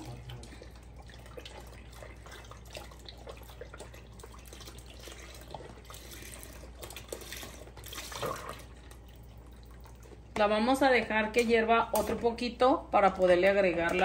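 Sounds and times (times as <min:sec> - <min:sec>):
milk pouring and splashing: 0:00.0 - 0:11.4.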